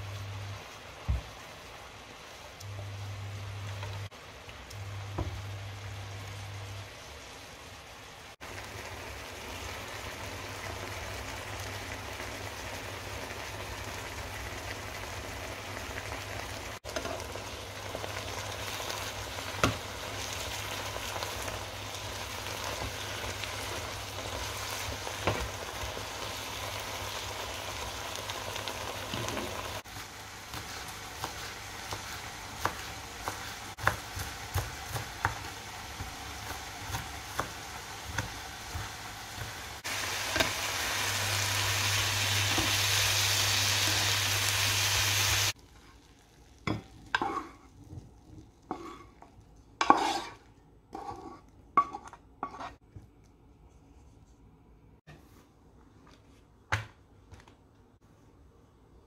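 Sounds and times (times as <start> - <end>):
mushrooms sizzling in a pan: 0.0 - 51.4.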